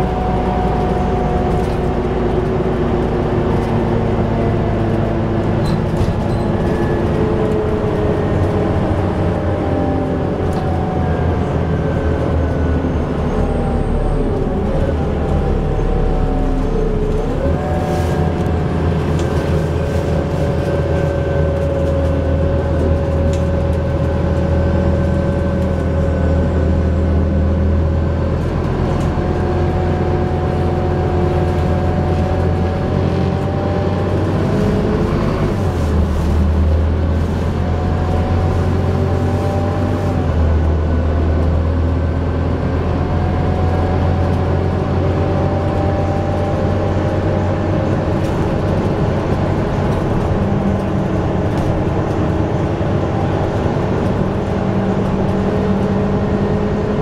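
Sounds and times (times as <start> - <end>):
bus engine low drone: 0.0 - 57.0.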